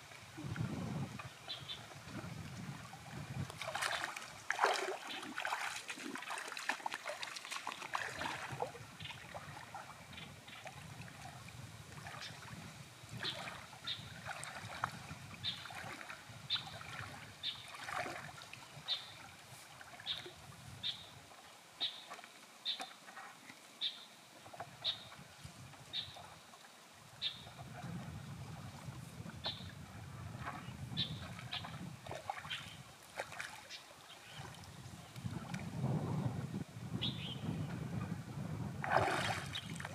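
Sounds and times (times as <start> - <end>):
river water splashing: 0.0 - 36.0, 38.6 - 39.9.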